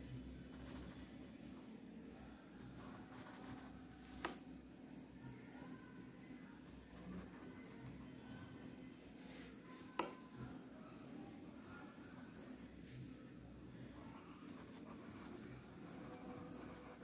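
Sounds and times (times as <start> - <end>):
high-pitched insect trill: 0.0 - 17.0
insect chirping: 0.0 - 17.0.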